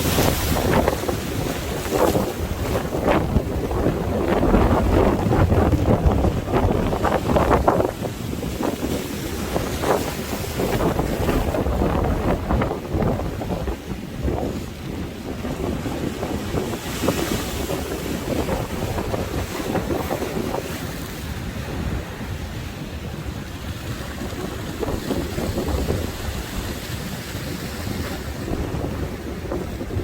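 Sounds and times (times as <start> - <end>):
waves washing on shore: 0.0 - 30.0
wind buffeting microphone: 0.0 - 30.0.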